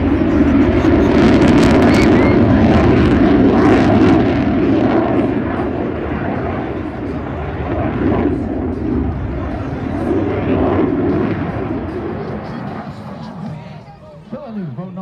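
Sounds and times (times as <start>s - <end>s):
fighter jet engine rumble: 0.0s - 15.0s.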